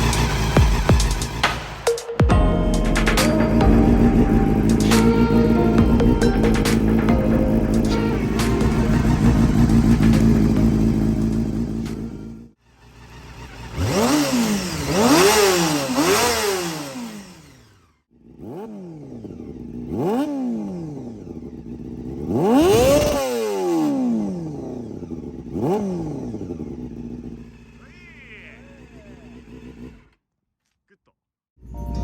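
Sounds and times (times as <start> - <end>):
motorcycle engine revving: 0.0 - 30.2.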